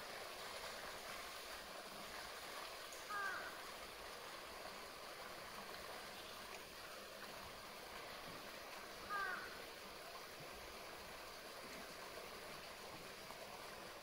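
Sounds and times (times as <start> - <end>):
water running into a pool: 0.0 - 14.0.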